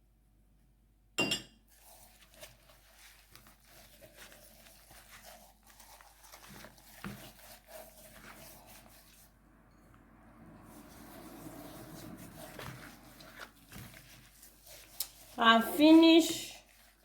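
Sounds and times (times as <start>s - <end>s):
hands rubbing raw chicken: 1.7s - 17.0s.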